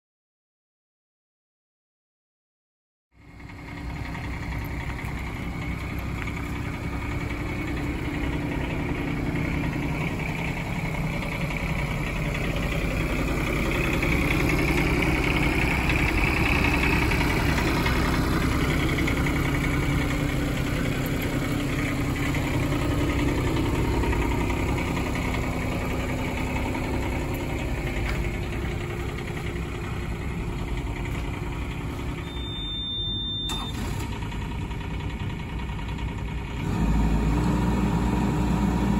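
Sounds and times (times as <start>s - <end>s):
excavator engine idling: 3.2s - 38.9s.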